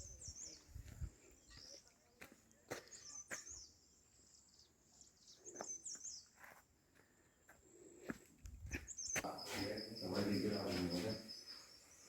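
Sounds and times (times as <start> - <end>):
faint bird chirps: 0.0 - 6.6, 7.4 - 12.0.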